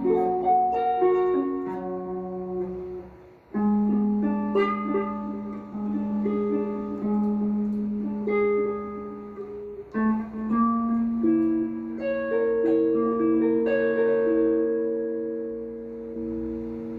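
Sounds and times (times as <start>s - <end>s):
guitar picking chords: 0.0s - 16.9s.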